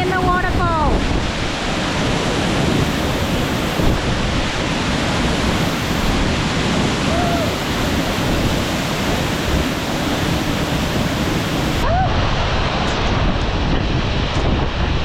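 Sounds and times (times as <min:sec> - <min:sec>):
waterfall roaring: 0:00.0 - 0:14.3.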